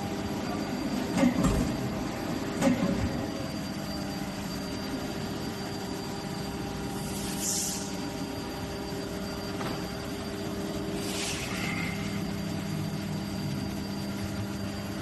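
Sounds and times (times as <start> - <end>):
injection molding machinery hum: 0.0 - 15.0.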